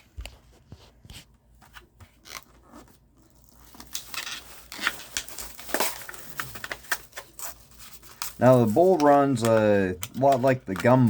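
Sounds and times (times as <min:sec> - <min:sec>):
plastic packaging crinkling: 0:02.1 - 0:11.0.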